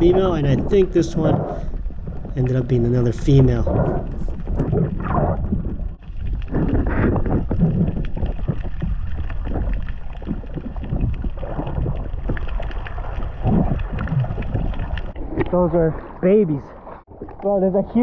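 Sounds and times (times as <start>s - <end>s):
underwater rush of water: 0.0s - 18.0s.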